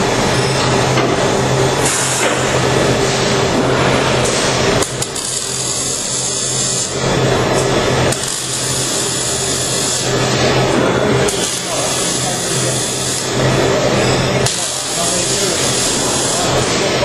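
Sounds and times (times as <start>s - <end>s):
electrical hum: 0.0s - 17.0s
welding arc crackling: 1.5s - 17.0s.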